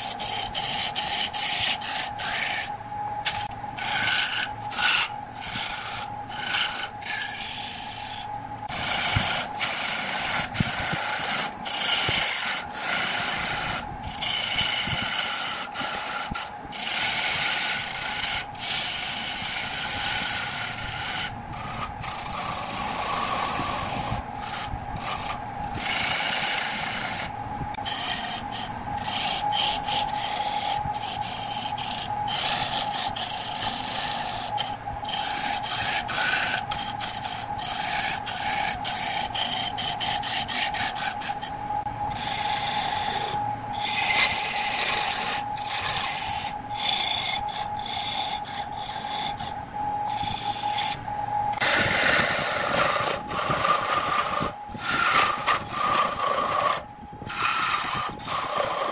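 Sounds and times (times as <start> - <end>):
lathe whine: 0.0 - 58.9
tool scraping spinning wood: 0.0 - 58.9.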